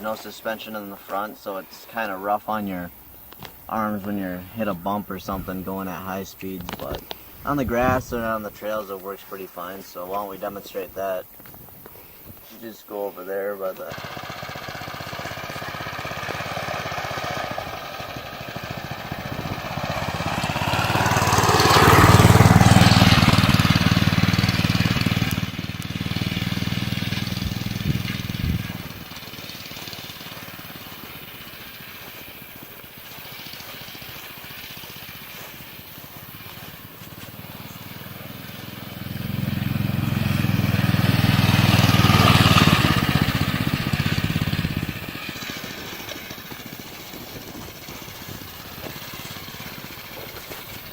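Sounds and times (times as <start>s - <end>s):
dirt bike engine running: 2.0s - 8.9s, 13.7s - 50.9s.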